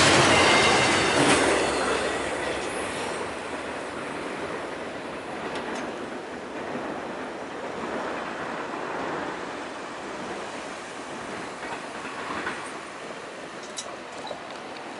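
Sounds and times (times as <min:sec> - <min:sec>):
freight train rumble and rail clatter: 0:00.0 - 0:14.9.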